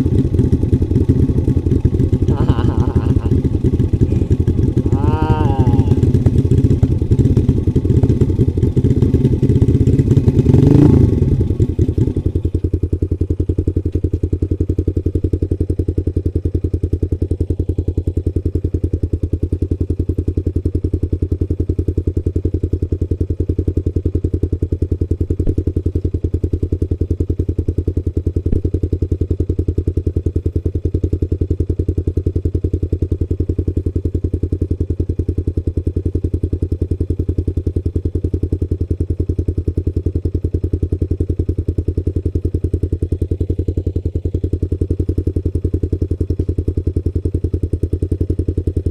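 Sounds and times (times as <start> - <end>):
motorcycle engine revving and idling: 0.0 - 48.9.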